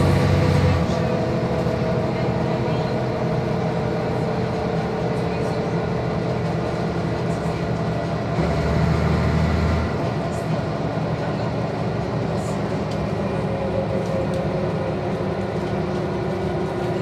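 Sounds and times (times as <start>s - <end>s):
bus engine drone: 0.0s - 17.0s
road noise: 0.0s - 17.0s.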